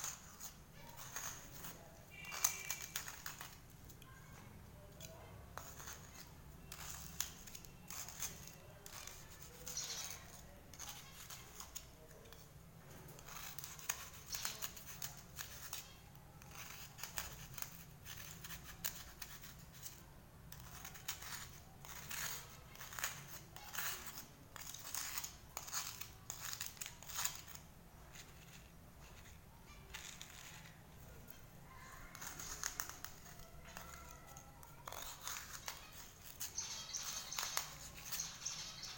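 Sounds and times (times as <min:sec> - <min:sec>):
knife scraping cuttlefish bone: 0:00.0 - 0:12.5, 0:13.1 - 0:38.9.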